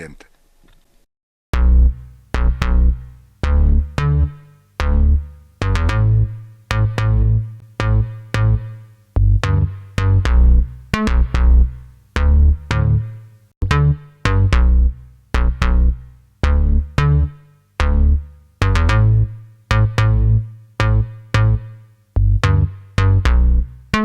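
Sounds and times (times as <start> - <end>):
punchy bass line: 1.5 - 24.0.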